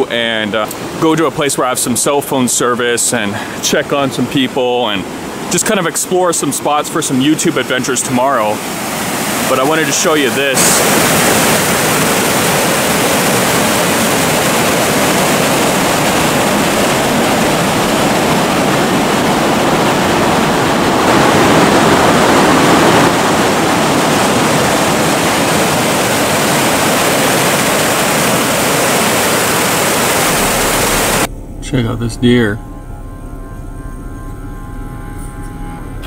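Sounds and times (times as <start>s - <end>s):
white water rushing: 0.0s - 31.3s.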